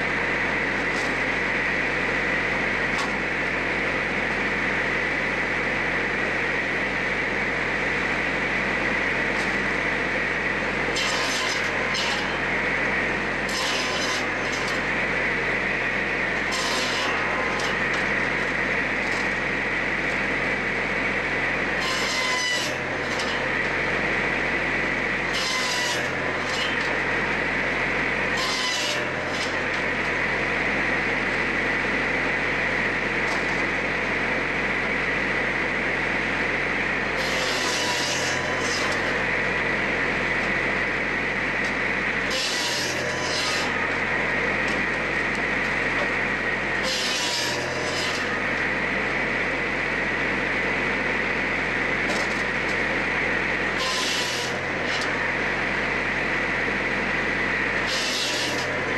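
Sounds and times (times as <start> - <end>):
saw blade cutting wood: 0.0 - 5.5, 7.0 - 35.2, 35.8 - 58.9
saw running with high tone: 0.0 - 58.9.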